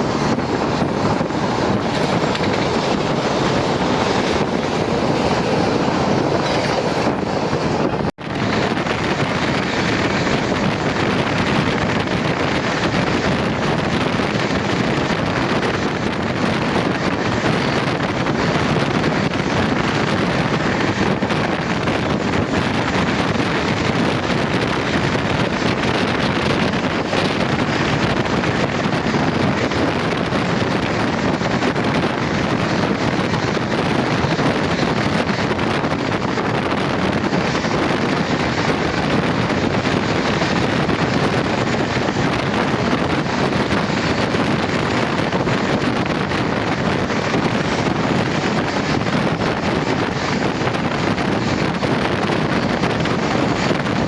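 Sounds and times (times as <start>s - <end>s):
moving train rushing: 0.0s - 54.0s
wind buffeting microphone: 0.0s - 54.0s.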